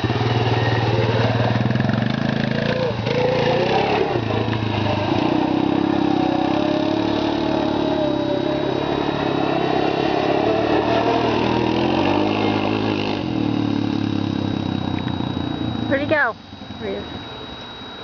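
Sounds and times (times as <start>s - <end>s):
quad bike engine running: 0.0s - 17.1s.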